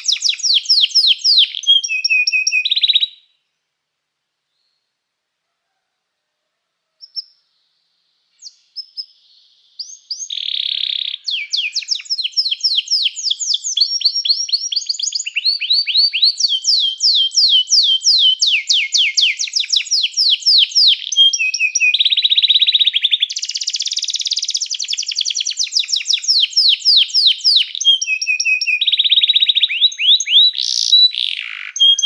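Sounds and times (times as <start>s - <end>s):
canary singing: 0.0s - 3.4s, 7.0s - 7.5s, 8.4s - 32.0s.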